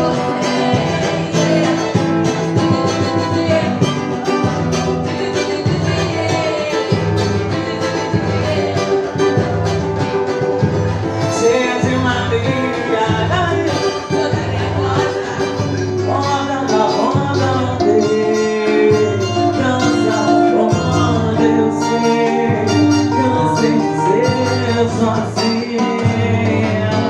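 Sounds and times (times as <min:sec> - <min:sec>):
latin band music: 0:00.0 - 0:27.0
pulsing bass line: 0:00.0 - 0:27.0.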